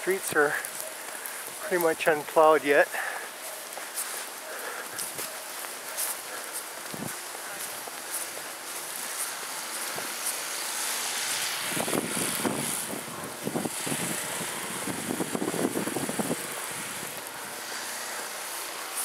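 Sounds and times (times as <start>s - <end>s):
engine running: 0.0s - 19.0s
steady hiss: 0.0s - 19.0s.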